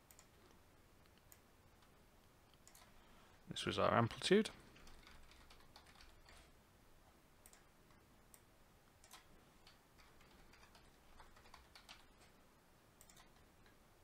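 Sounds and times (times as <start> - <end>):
faint keyboard typing: 0.0 - 12.4, 13.0 - 13.8.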